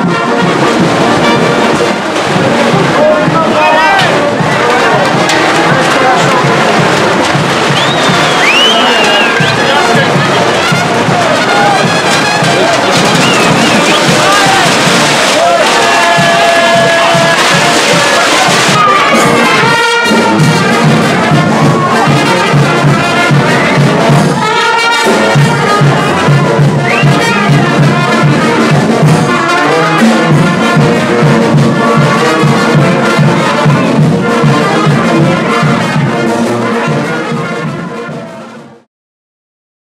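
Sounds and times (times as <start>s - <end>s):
heavy rain pouring: 0.0s - 36.3s
brass band playing: 0.0s - 38.9s.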